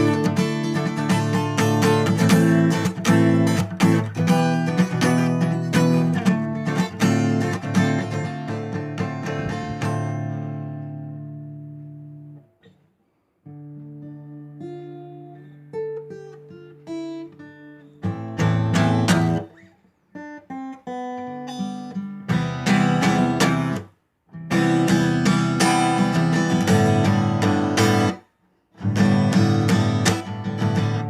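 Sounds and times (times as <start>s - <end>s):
acoustic guitar playing: 0.0s - 31.0s.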